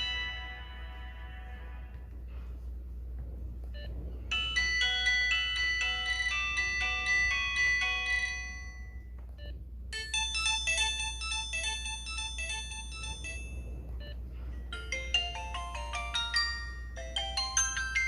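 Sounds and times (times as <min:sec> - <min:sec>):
polyphonic phone ringtones: 0:00.0 - 0:01.9, 0:03.8 - 0:18.0.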